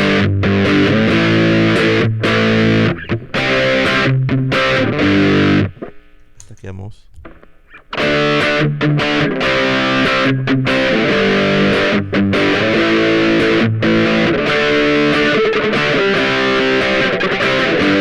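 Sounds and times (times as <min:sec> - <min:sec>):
overdriven electric guitar: 0:00.0 - 0:06.5, 0:07.2 - 0:18.0.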